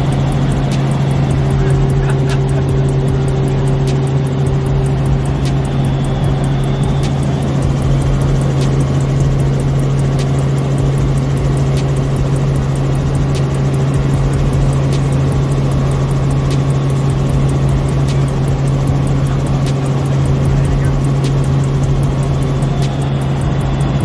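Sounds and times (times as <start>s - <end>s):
helicopter in flight: 0.0s - 24.0s.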